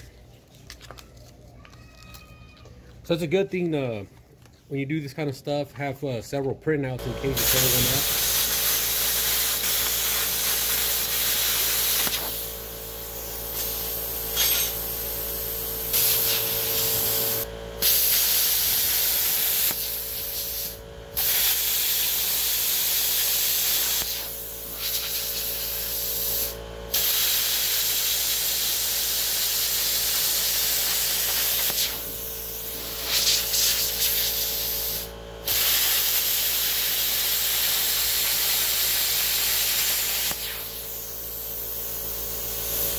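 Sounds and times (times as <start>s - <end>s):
steady hum: 3.0s - 42.9s
plasma cutter hissing: 7.0s - 42.9s.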